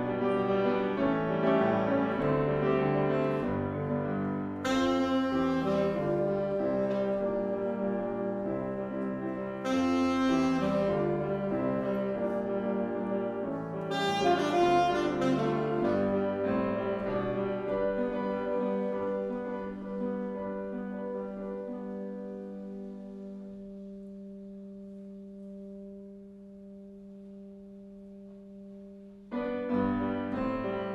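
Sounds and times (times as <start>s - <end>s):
piano chords: 0.0s - 30.9s
saxophone: 4.4s - 30.9s.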